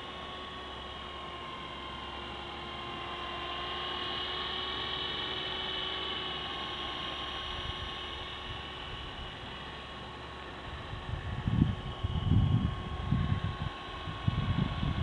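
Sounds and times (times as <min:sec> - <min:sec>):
rc helicopter motor whining: 0:00.0 - 0:15.0.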